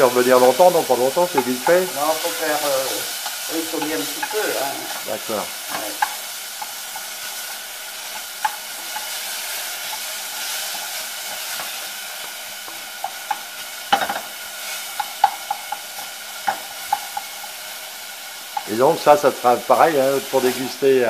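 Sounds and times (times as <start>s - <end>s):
food sizzling in a saucepan: 0.0s - 21.0s
wooden spoon stirring and scraping: 0.2s - 17.5s
spoon tapping against pan: 0.4s - 17.5s, 18.5s - 18.8s.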